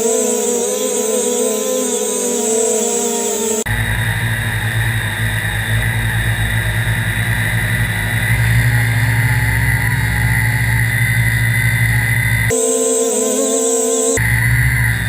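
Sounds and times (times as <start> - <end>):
drone motors humming and whining: 0.0 - 15.0.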